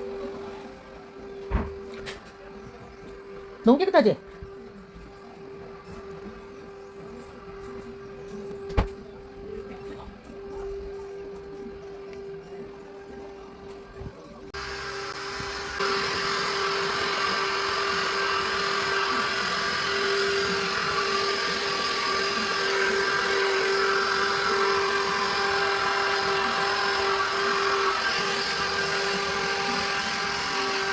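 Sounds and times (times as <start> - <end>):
suction motor humming: 4.4 - 30.9.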